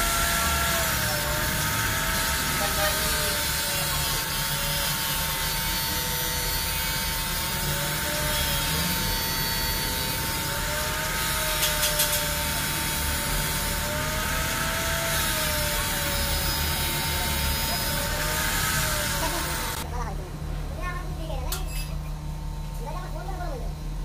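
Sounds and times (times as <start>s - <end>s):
electric drill whining: 0.0s - 19.8s.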